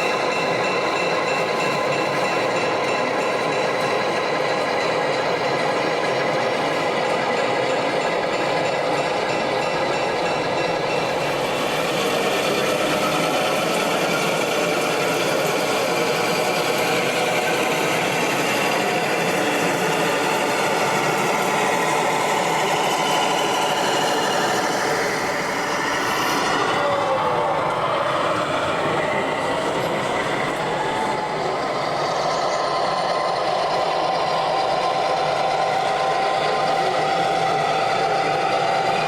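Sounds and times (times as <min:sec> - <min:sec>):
hall hubbub: 0:00.0 - 0:39.0
model train diesel engine sound: 0:00.0 - 0:39.0.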